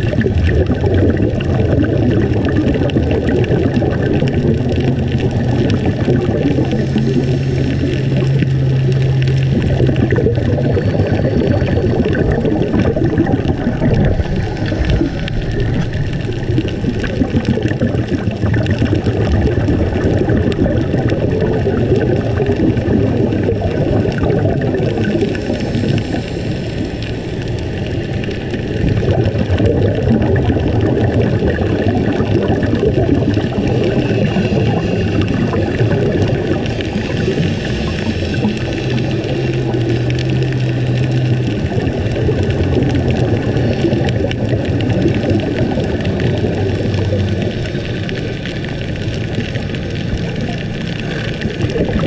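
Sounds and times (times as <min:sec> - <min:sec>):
low hum: 0:00.0 - 0:52.0
underwater crackling hiss: 0:00.0 - 0:52.0.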